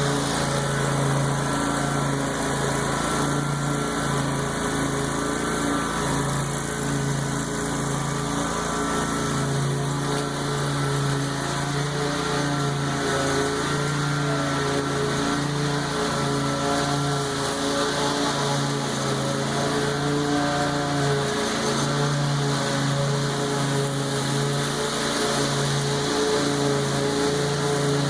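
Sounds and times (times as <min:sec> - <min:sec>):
lawn mower engine running: 0:00.0 - 0:28.0.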